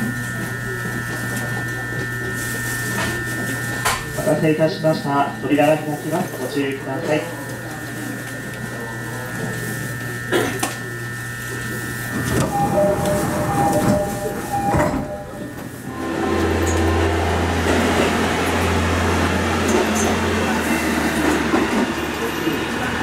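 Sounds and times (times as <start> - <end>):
diesel railcar engine drone: 0.0 - 23.0
electric hum of train: 0.0 - 23.0.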